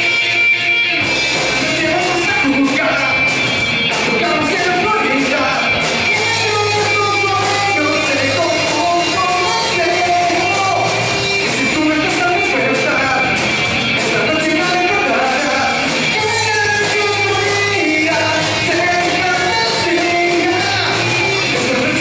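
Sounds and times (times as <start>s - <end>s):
drum kit with cymbals: 0.0s - 22.0s
electric bass: 0.0s - 22.0s
electric guitar: 0.0s - 22.0s
male lead vocal: 0.0s - 22.0s.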